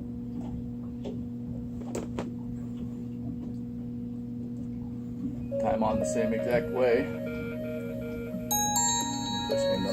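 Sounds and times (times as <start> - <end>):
low mechanical hum: 0.0 - 9.9.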